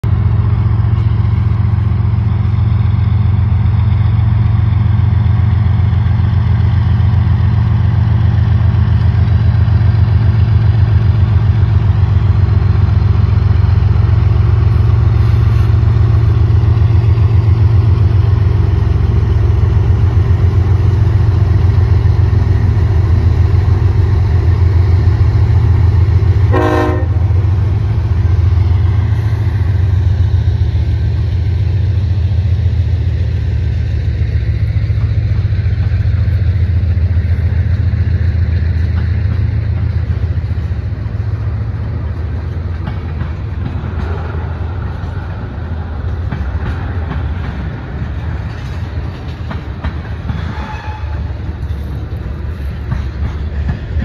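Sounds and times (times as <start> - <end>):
locomotive engine rumble: 0.0 - 54.0.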